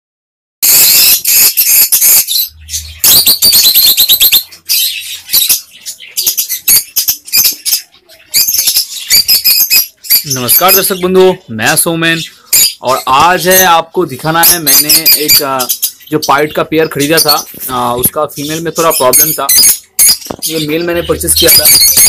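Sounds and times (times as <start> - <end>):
lovebirds chirping and squawking: 0.6 - 22.0.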